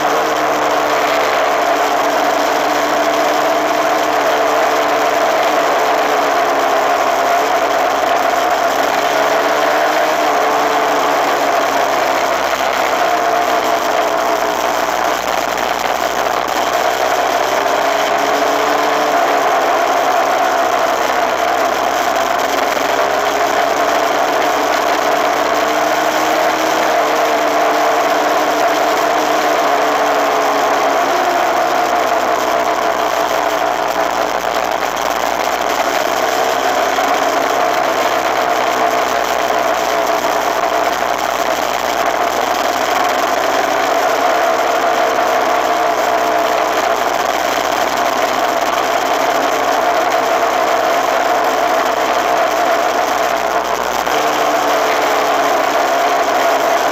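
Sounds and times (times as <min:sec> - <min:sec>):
dirt bike engine running: 0:00.0 - 0:56.9
wind and road noise: 0:00.0 - 0:56.9.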